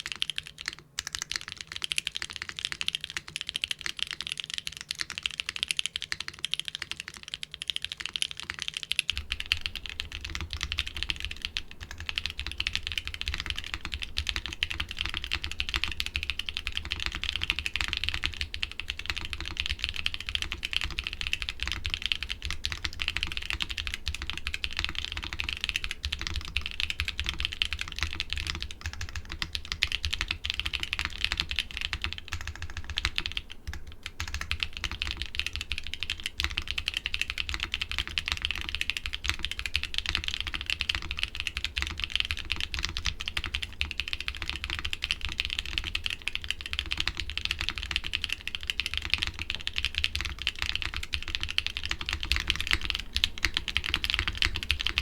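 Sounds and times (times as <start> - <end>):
fast typing on mechanical keyboard: 0.0 - 55.0.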